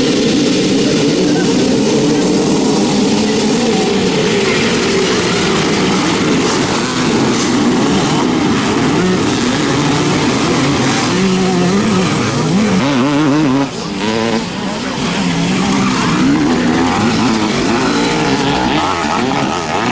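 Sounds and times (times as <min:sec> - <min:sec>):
motorcycle engines revving: 0:00.0 - 0:19.9.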